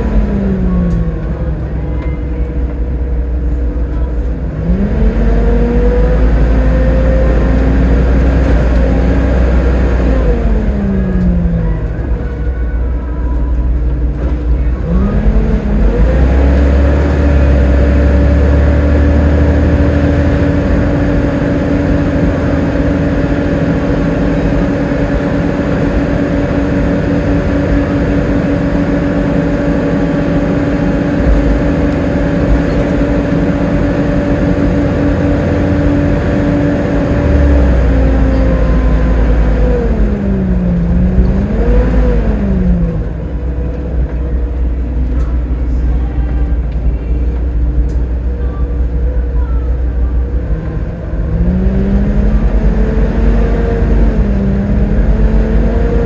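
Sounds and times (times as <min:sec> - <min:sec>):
bus engine pulling away: 0:00.0 - 0:56.0.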